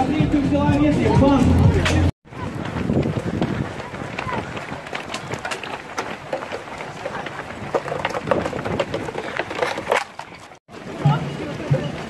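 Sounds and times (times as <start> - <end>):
runners' footsteps on asphalt: 0.0 - 12.0
steady outdoor rush: 0.0 - 12.0.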